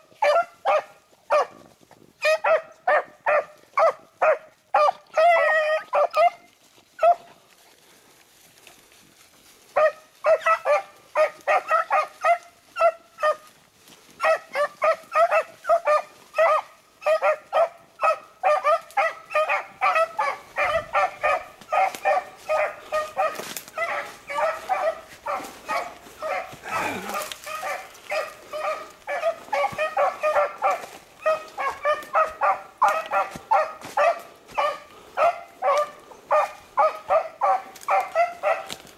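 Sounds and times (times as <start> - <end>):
hounds baying: 0.0 - 7.4, 9.4 - 38.9.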